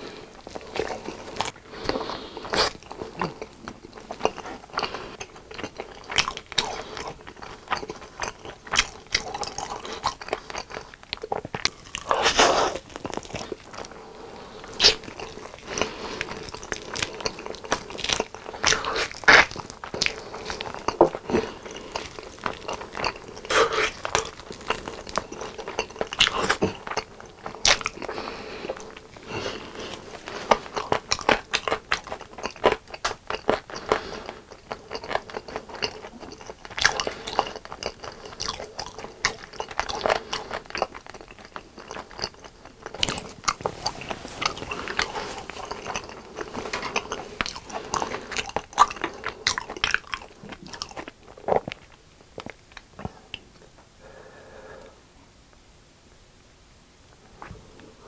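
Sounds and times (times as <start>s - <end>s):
close chewing and biting: 0.0s - 53.5s.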